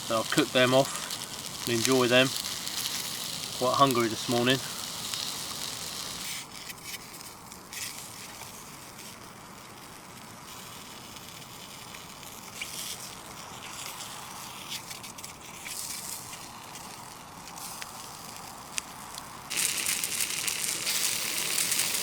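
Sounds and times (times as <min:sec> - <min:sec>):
fire crackles and pops: 0:00.0 - 0:22.0
sausages sizzling over fire: 0:00.0 - 0:22.0.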